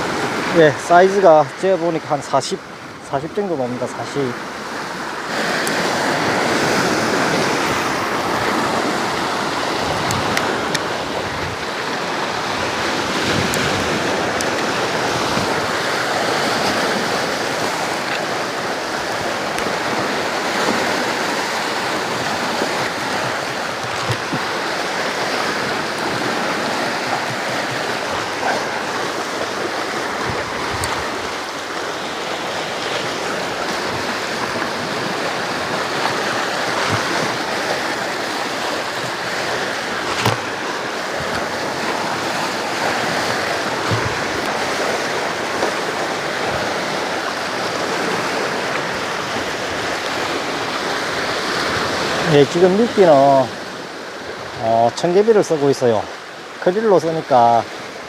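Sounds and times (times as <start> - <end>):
sea surf against rocks: 0.0 - 58.0.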